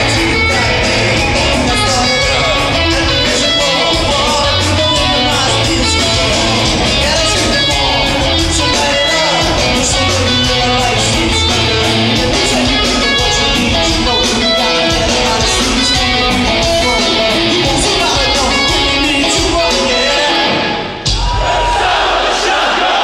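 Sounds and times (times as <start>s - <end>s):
live band with electric guitar: 0.0s - 21.7s.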